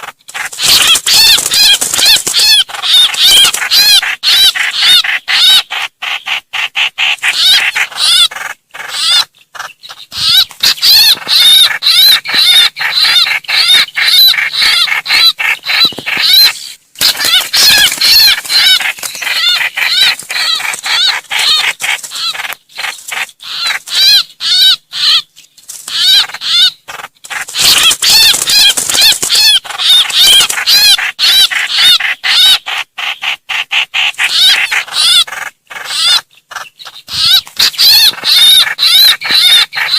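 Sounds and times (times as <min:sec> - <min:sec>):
harsh bird calls: 0:00.0 - 0:39.9.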